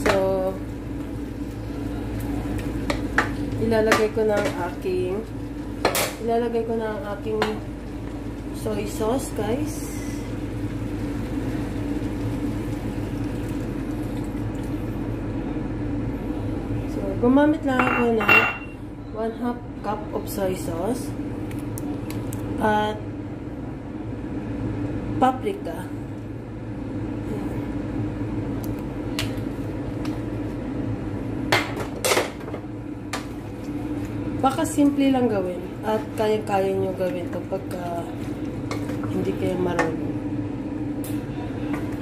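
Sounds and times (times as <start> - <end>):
kitchen fan humming: 0.0 - 42.0.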